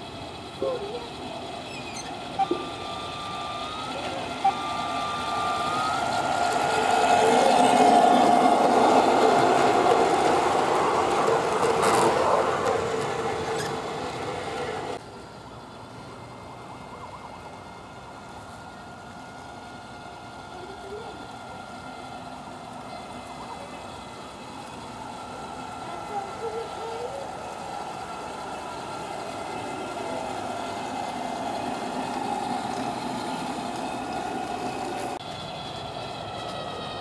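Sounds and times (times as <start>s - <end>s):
model train humming: 0.0s - 37.0s
wheels rolling on track: 0.0s - 37.0s.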